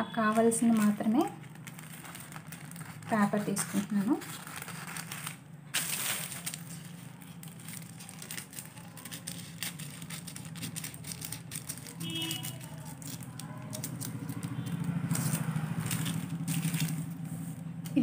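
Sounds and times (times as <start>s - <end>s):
tracing paper crackling: 0.3s - 17.9s.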